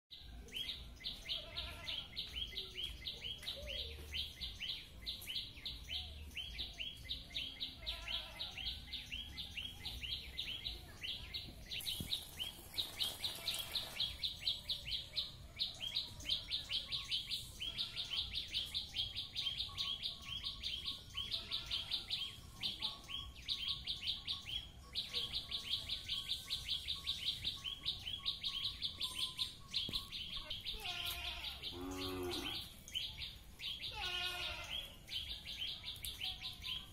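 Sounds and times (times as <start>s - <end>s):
songbird chattering trill: 0.2s - 36.9s.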